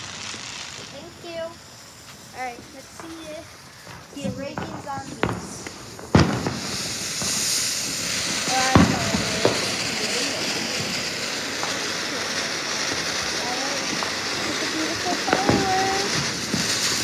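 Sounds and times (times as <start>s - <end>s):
firework crack: 0.0s - 17.0s
firework hissing: 0.0s - 17.0s.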